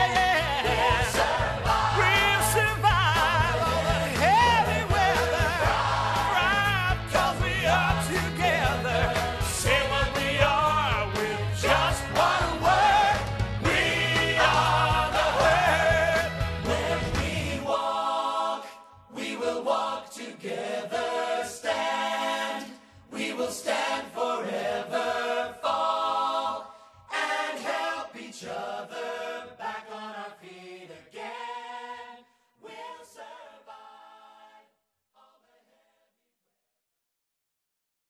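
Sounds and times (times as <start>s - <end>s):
choir singing unaccompanied: 0.0s - 36.0s.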